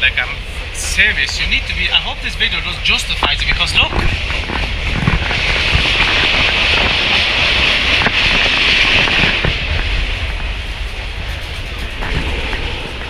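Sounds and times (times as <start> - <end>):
hissing rail noise: 0.0 - 13.0
train rumbling: 0.0 - 13.0
wheels rattling and clicking: 0.0 - 13.0.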